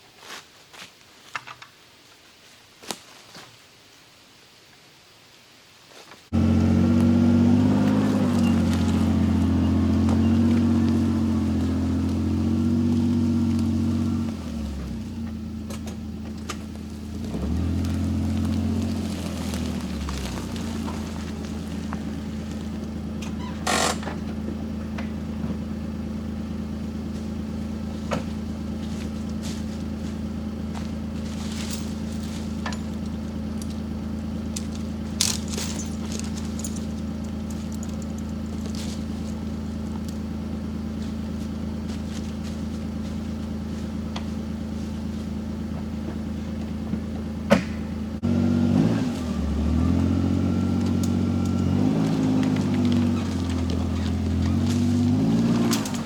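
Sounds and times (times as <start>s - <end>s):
engine revving: 6.3s - 56.0s
utility vehicle engine idling: 6.3s - 56.0s.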